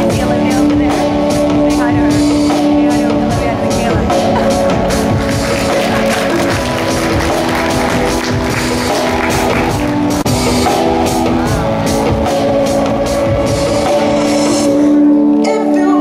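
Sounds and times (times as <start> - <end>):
drum kit: 0.0 - 15.0.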